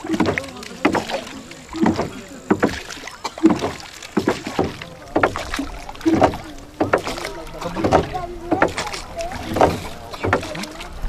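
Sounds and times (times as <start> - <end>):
oars splashing through water: 0.0 - 11.0.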